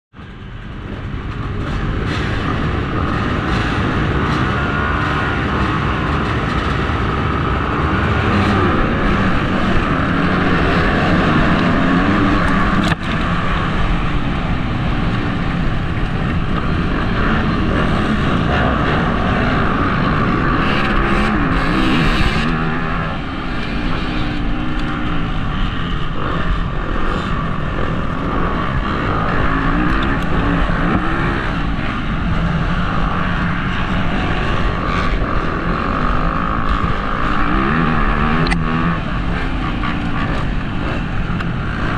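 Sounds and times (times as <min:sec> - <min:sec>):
steady low rumble: 0:00.2 - 0:41.9
motocross bike engine revving: 0:00.4 - 0:41.9.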